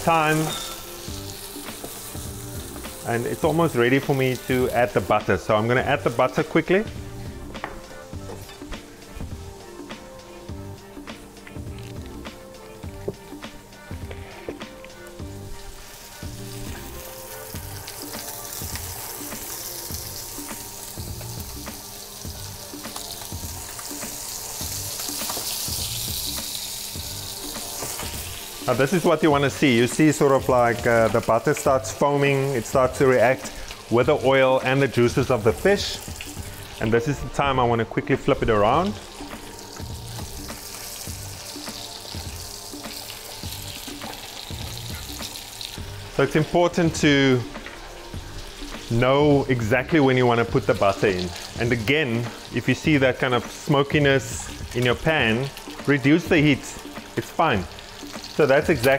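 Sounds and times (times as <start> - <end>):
fish sizzling in a pan: 0.0 - 37.4, 38.0 - 58.9
background music with steady beat: 0.0 - 58.9.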